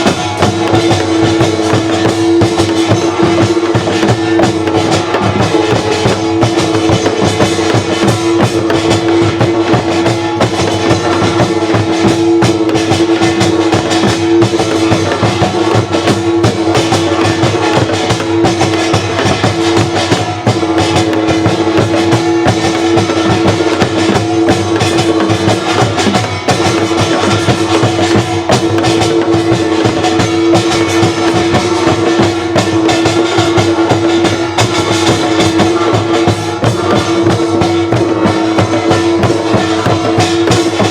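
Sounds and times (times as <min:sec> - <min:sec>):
fast percussion strikes: 0:00.0 - 0:40.9.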